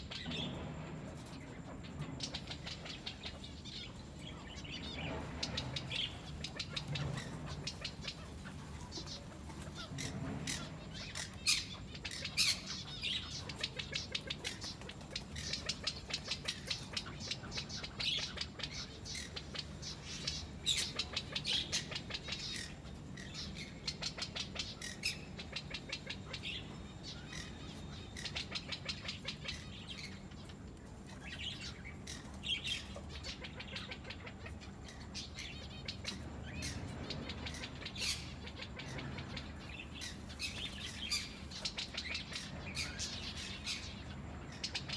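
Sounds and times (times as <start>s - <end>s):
birds chirping and squawking: 0.0s - 44.9s.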